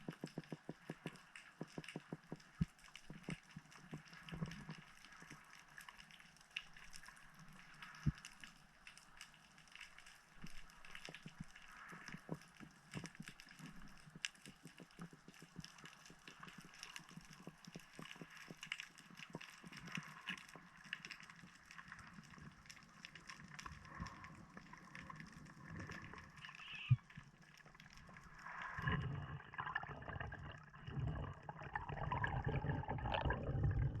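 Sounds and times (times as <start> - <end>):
underwater bubbling: 0.0 - 8.8, 9.9 - 34.0
underwater crackle of clicks: 0.0 - 33.9.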